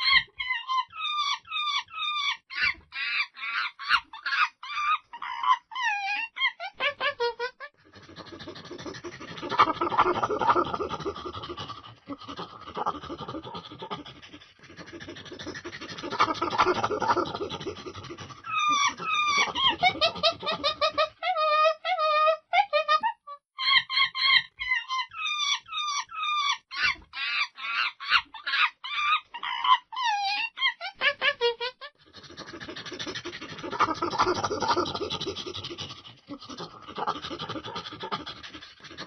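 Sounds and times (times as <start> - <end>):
monkey chattering: 0.0 - 22.9, 23.6 - 39.0
monkey calls: 0.0 - 39.0.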